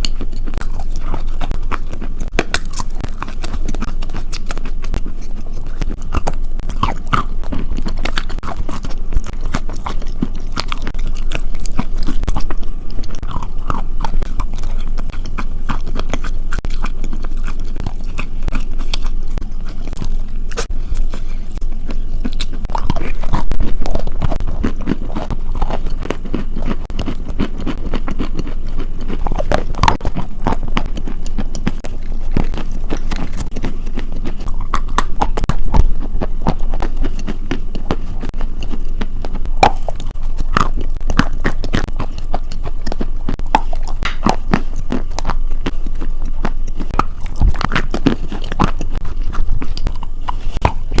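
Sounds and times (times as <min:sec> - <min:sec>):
chewing crunchy food: 0:00.0 - 0:51.0.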